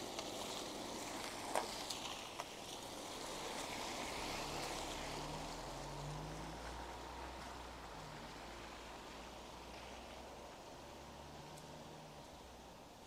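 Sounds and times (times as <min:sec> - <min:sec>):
tyres hissing on wet road: 0:00.0 - 0:13.0.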